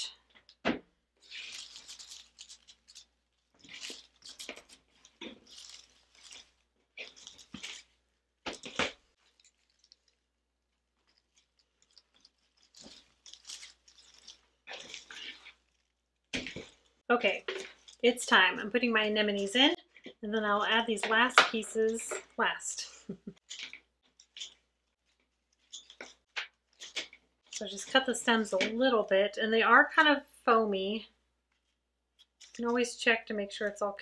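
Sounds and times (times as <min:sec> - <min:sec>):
artificial foliage rustling: 0:01.1 - 0:29.3, 0:31.5 - 0:33.0.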